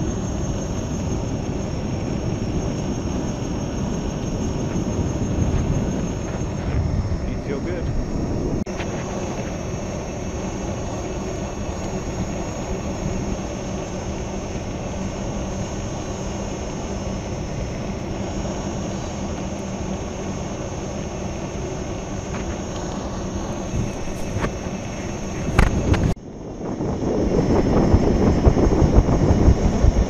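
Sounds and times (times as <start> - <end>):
faint high whine: 0.0 - 30.0
steady low hum: 0.0 - 30.0
wind: 0.0 - 30.0.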